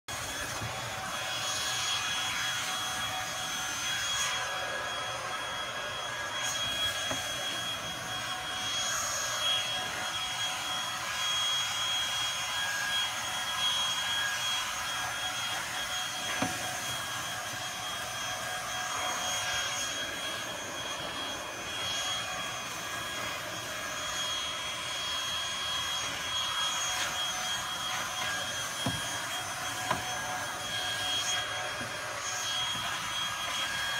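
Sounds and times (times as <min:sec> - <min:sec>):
electric blower whining: 0:00.1 - 0:33.9.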